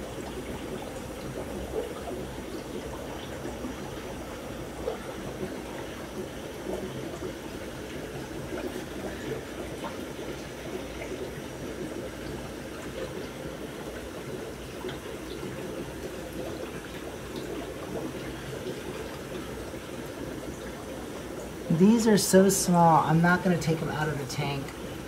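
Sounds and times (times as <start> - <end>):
water trickling from aquarium filter: 0.0 - 25.0.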